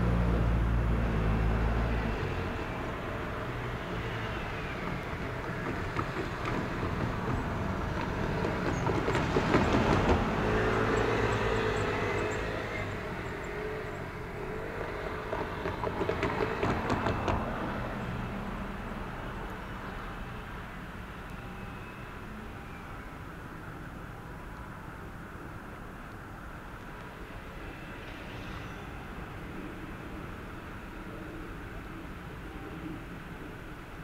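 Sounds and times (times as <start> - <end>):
train rumble and clatter: 0.0 - 21.6, 23.3 - 34.0.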